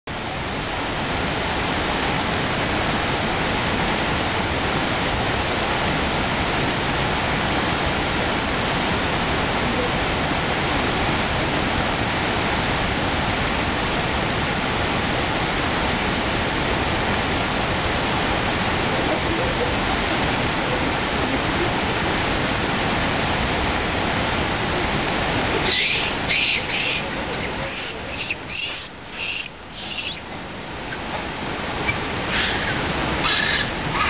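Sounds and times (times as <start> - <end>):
flowing water rushing: 0.1 - 34.0.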